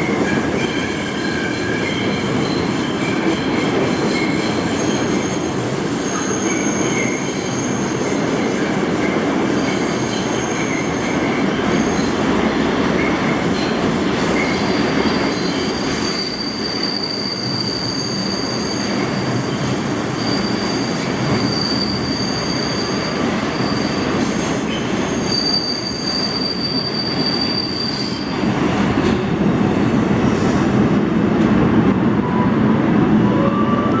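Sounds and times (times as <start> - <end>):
train wheels squealing: 0.0 - 12.3, 13.0 - 28.4
train wheels rumbling on rails: 0.0 - 34.0.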